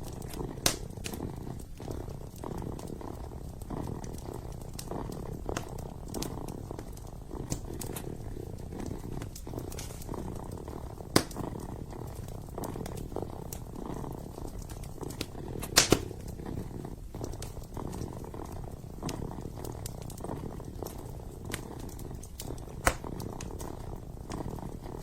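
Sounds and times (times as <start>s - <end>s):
kitten purring: 0.0s - 25.0s
wood fire crackling and popping: 0.0s - 25.0s.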